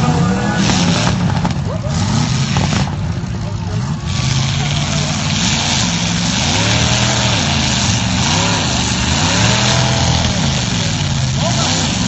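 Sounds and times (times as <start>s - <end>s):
car engines revving: 0.0s - 12.0s
loud steady noise: 0.0s - 12.0s.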